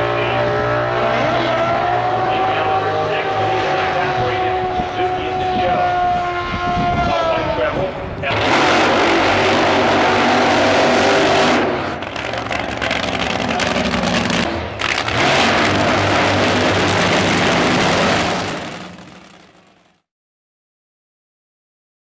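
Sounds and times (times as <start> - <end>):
supercharged engines at full throttle: 0.0 - 20.0.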